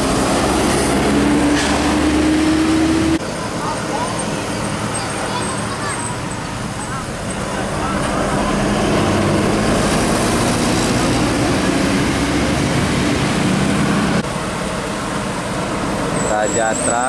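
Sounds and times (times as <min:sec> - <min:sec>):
coach diesel engine passing: 0:00.0 - 0:17.0.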